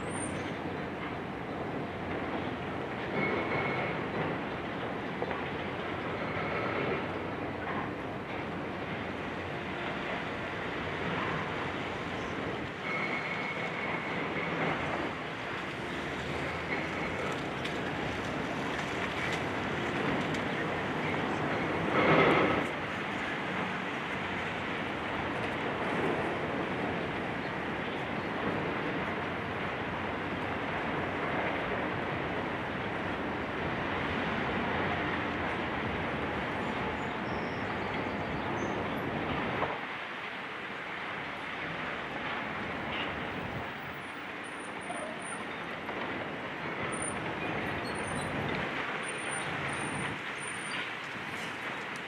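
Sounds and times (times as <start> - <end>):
demolition site noise: 0.0 - 52.0.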